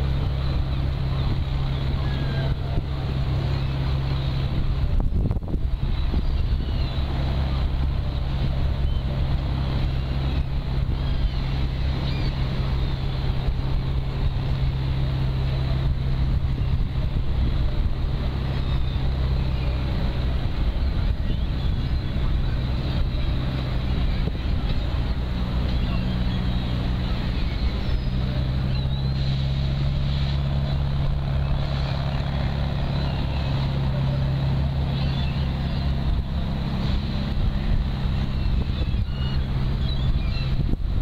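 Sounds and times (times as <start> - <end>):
engine running: 0.0 - 41.0
wind noise on microphone: 0.0 - 41.0.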